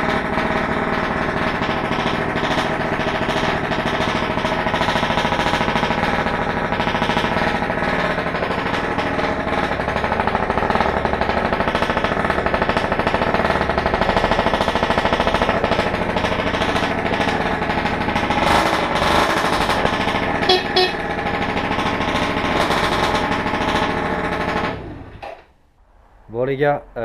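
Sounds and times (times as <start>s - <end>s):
scooter engine rattling buzz: 0.0s - 25.5s.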